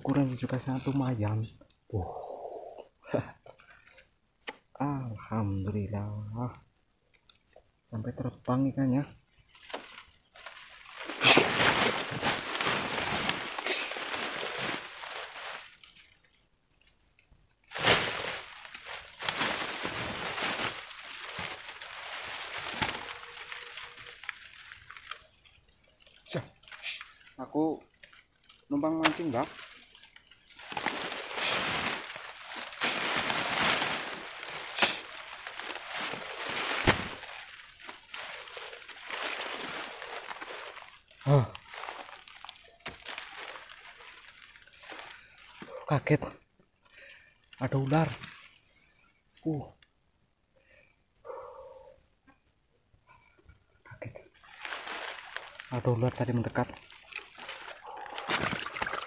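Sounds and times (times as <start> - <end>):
grass and brush rustling: 0.0 - 49.9, 53.0 - 59.0.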